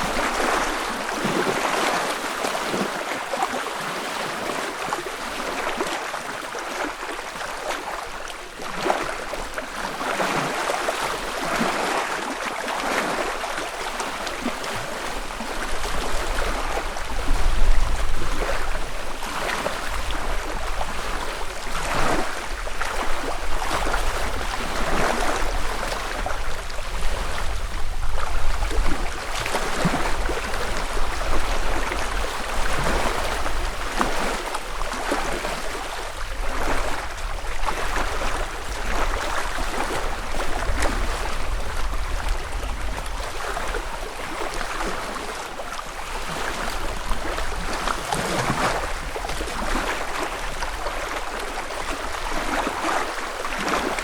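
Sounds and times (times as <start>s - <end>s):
water lapping at shore: 0.0s - 54.0s.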